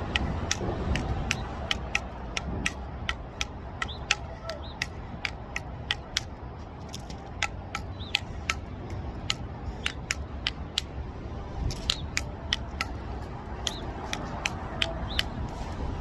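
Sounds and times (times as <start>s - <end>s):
devil stick tapping clicks: 0.0s - 15.8s.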